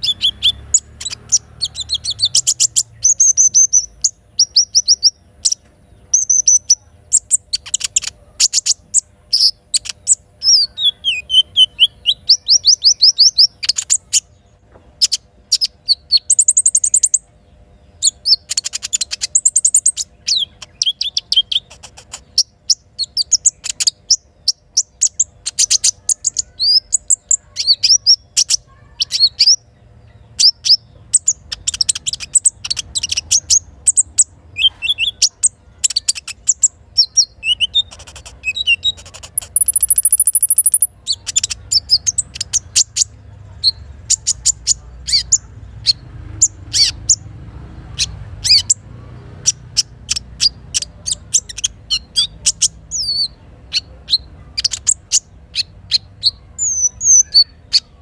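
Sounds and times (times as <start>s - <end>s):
bird chirping rapidly: 0.0s - 58.0s.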